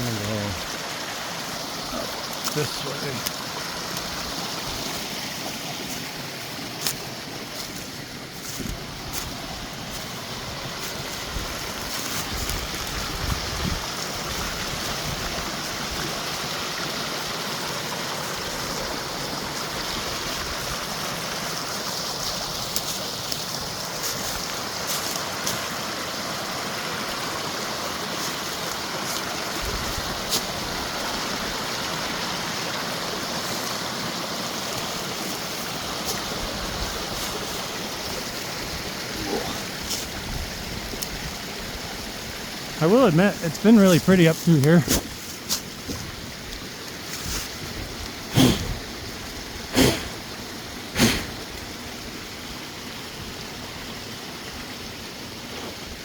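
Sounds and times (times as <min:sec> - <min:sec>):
creek running over rocks: 0:00.0 - 0:56.0.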